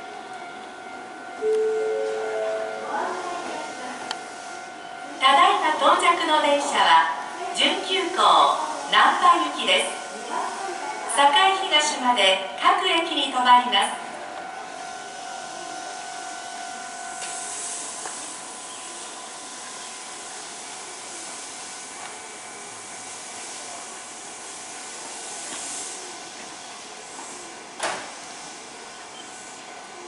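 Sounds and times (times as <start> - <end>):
train hissing rush: 1.4 - 13.7, 14.6 - 30.0.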